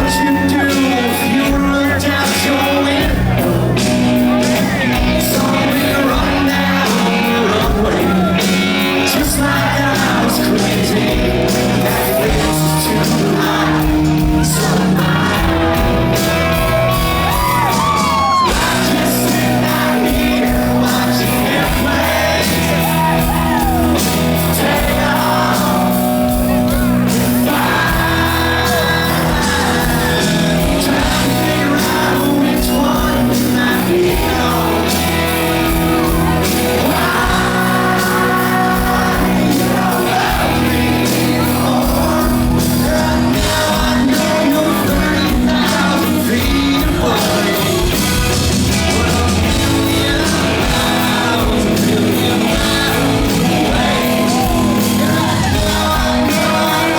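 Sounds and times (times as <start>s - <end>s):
crowd shouting and whooping: 0.0s - 56.9s
live country band: 0.0s - 56.9s
person singing: 0.0s - 56.9s.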